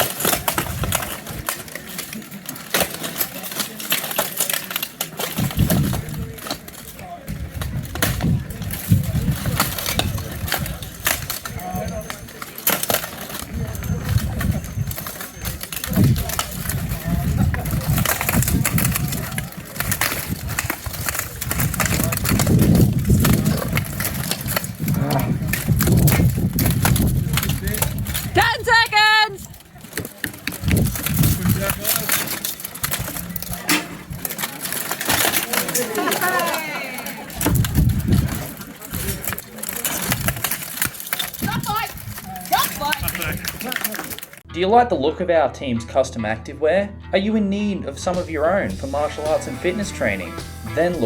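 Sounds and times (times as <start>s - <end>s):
plate armour clanking and rattling: 0.0s - 28.5s, 29.5s - 44.5s
murmur of voices: 0.0s - 45.8s, 47.9s - 51.0s.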